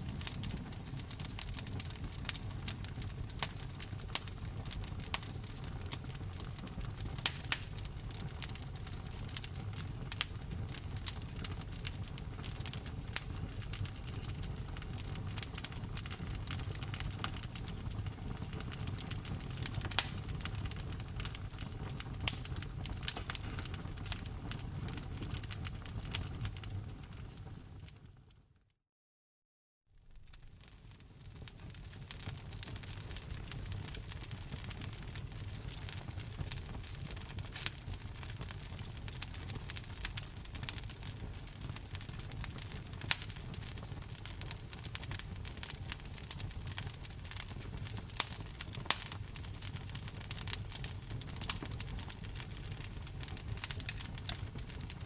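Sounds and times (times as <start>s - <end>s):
wood fire crackling: 0.0s - 28.2s, 30.0s - 55.0s
low rumble of flames: 0.0s - 28.3s, 30.0s - 55.0s.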